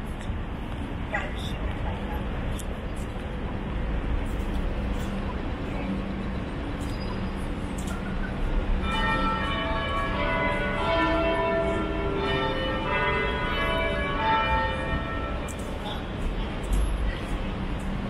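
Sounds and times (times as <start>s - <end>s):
background hubbub: 0.0s - 18.0s.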